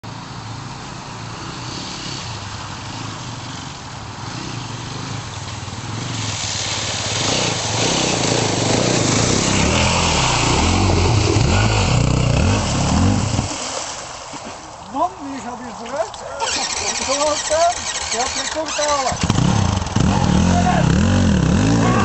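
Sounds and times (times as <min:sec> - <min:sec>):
off-road vehicle engine running: 0:00.6 - 0:13.6, 0:16.3 - 0:22.0.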